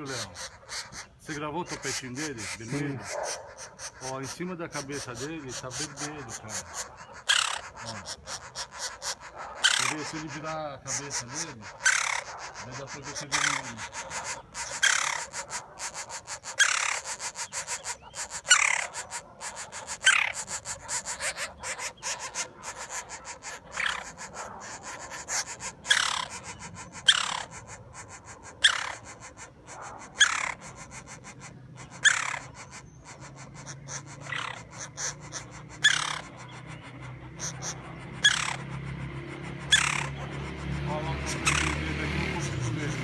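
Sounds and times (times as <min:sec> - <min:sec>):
woodpecker chick calling: 0:00.0 - 0:43.0.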